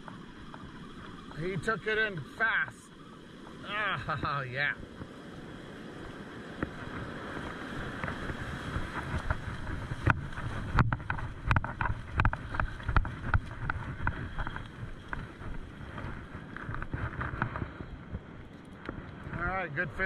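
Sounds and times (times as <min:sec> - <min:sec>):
surf rushing: 0:00.0 - 0:18.0
wind on microphone: 0:03.4 - 0:20.0.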